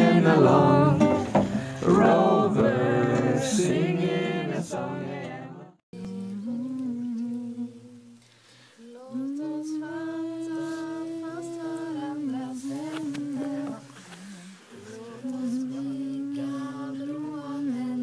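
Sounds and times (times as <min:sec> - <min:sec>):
voices humming a slow tune: 0:00.0 - 0:18.0.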